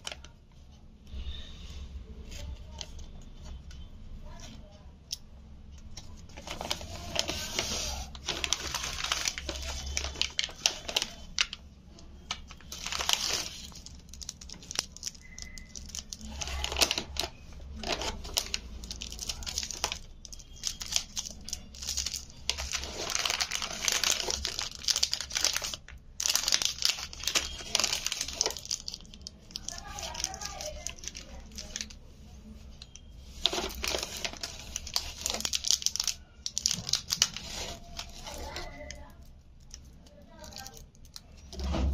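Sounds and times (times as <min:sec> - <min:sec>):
candy wrappers crinkling: 0:00.0 - 0:00.6, 0:06.0 - 0:41.6.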